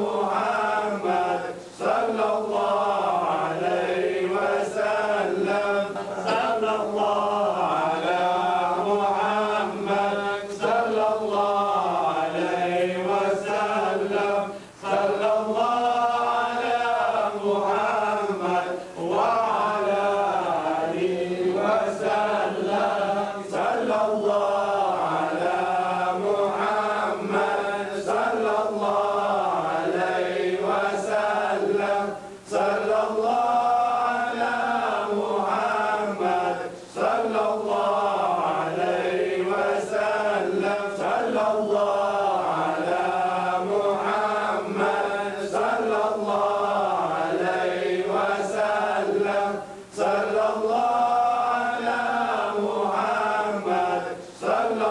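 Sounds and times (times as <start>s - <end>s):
person chanting melodically: 0.0s - 54.9s.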